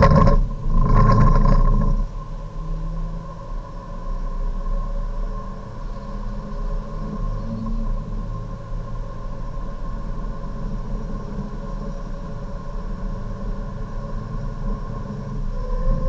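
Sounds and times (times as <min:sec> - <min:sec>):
high engine whine: 0:00.0 - 0:16.0.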